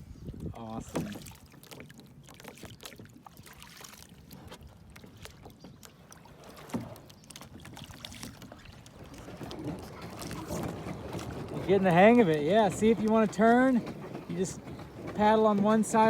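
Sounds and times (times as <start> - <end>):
kayak paddle dipping in water: 0.4 - 16.0
water dripping and splashing: 0.8 - 16.0.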